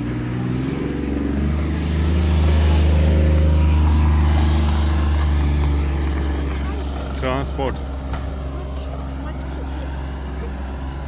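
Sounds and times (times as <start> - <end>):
utility vehicle engine passing: 0.0 - 11.0.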